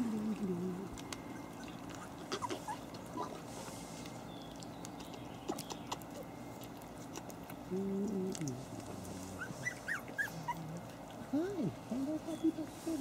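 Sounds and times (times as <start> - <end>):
puppy licking and chewing food: 0.0 - 12.4.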